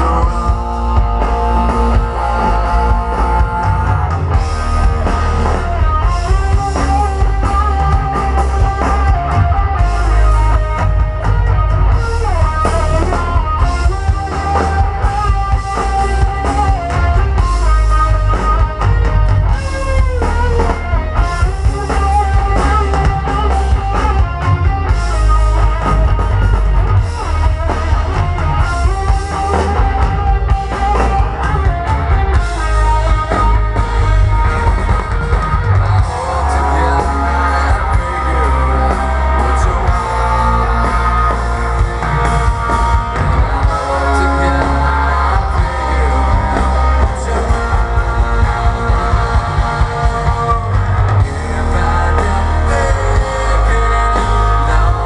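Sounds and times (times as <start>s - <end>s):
rock band playing instrumental: 0.0s - 55.0s.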